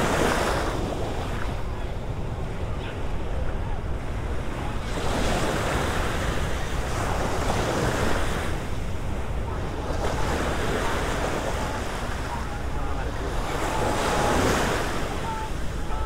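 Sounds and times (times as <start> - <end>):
small waves washing on sand: 0.0 - 16.0.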